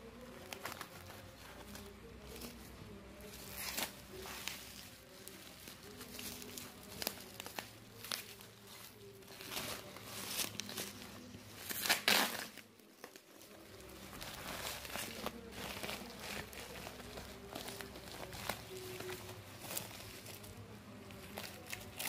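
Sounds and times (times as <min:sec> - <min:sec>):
plastic and paper packaging crinkling: 0:00.0 - 0:22.0.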